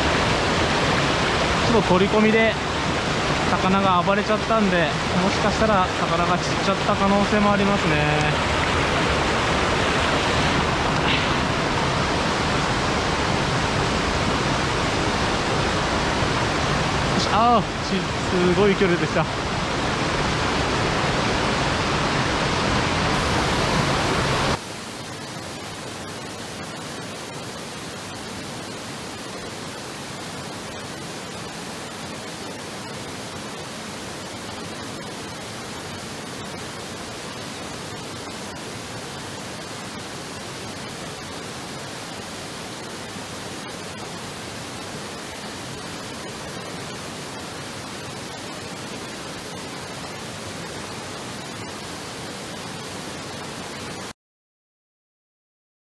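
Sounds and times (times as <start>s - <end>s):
stream water flowing: 0.0s - 54.1s
small waterfall rushing: 0.0s - 54.2s.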